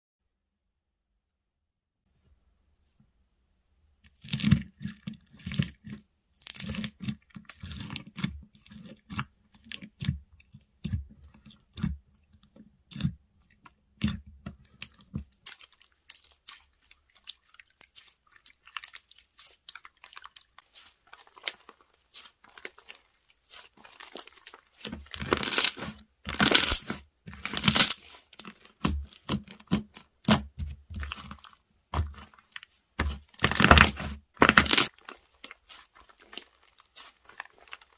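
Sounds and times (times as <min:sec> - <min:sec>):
slime crunching and crackling: 0:04.1 - 0:37.9.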